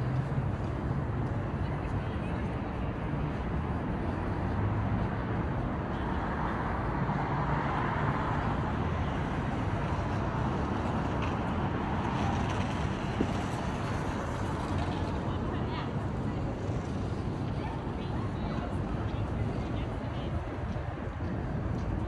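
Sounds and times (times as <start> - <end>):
cars and buses going by: 0.0 - 22.0.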